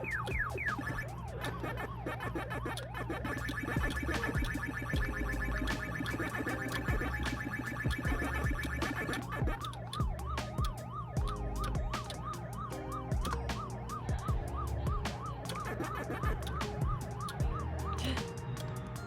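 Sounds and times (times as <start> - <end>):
music with drums and bass: 0.0 - 1.2, 3.8 - 19.0
siren-like sweeping tone: 0.0 - 19.0.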